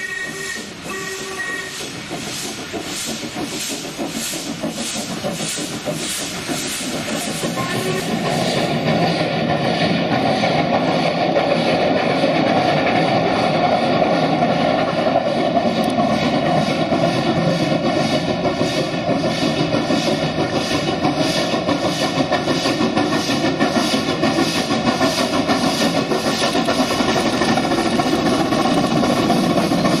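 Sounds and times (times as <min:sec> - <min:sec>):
steam locomotive chuffing: 0:00.0 - 0:30.0.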